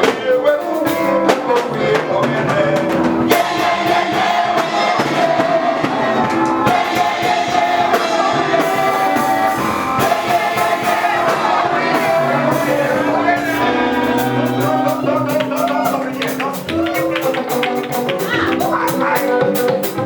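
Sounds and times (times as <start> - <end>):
steady drum hits: 0.0 - 18.4
band playing gospel music: 0.0 - 20.0
group of voices singing: 0.0 - 20.0.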